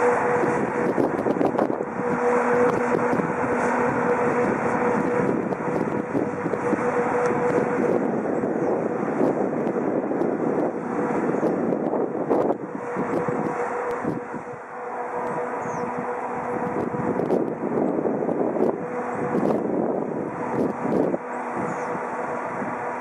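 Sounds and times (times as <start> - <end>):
electric locomotive humming: 0.0 - 23.0
wheels rumbling on rails: 0.0 - 23.0.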